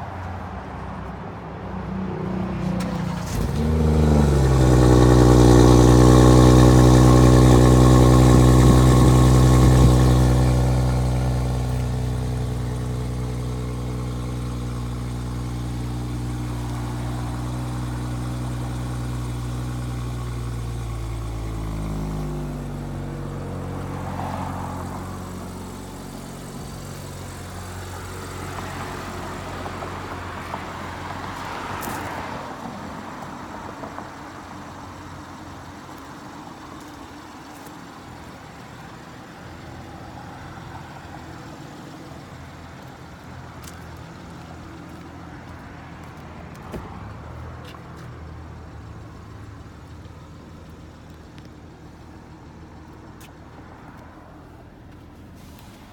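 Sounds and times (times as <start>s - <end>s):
car engine idling: 2.9s - 55.9s.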